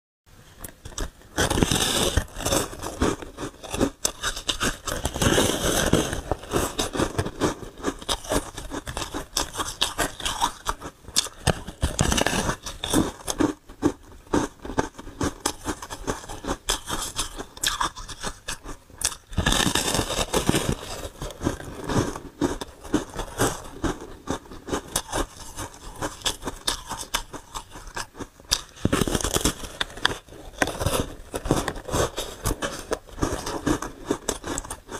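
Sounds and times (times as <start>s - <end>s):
ice being crunched and chewed: 0.6s - 34.9s.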